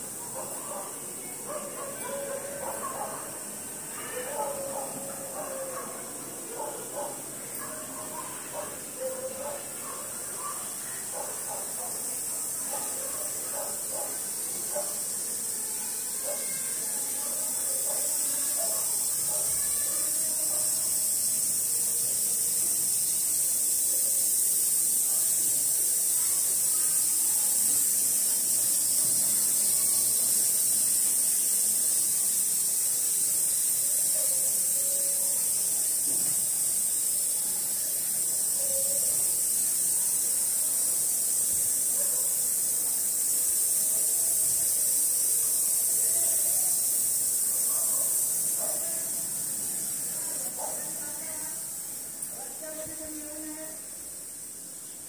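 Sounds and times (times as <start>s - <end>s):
faint indistinct voices: 0.0s - 55.0s
high-pitched hiss: 0.0s - 55.0s.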